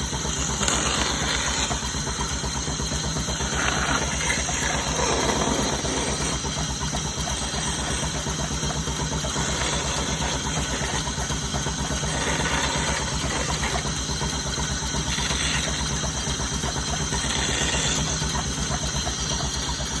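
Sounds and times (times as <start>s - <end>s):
machine motor throbbing: 0.0s - 20.0s.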